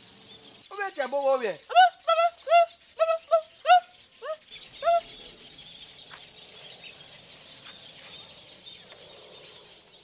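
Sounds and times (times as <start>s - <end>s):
bird calling: 0.0s - 10.0s
outdoor background noise: 0.0s - 10.0s.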